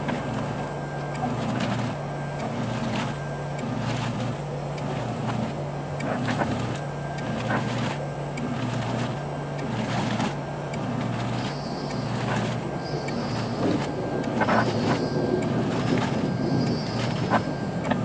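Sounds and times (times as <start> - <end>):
scattered clicks: 0.0 - 18.0
washing machine motor hum: 0.0 - 18.0
water sloshing: 0.0 - 18.0.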